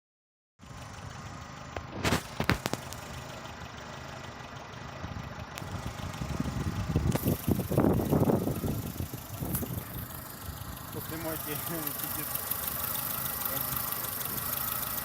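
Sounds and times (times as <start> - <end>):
car engine idling rough: 0.6 - 15.0.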